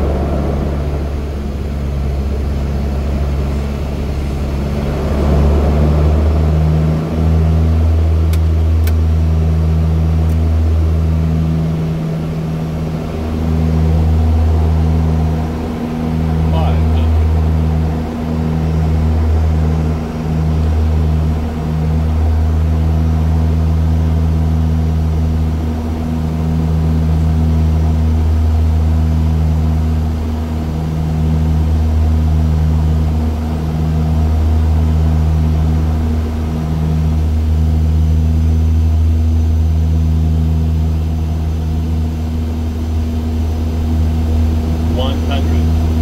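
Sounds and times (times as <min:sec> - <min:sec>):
turboprop engines droning: 0:00.0 - 0:46.0.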